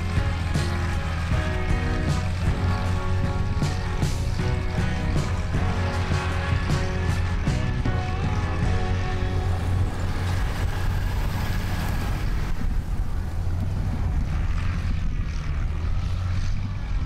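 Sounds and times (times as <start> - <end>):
car engine driving past: 0.0 - 17.0.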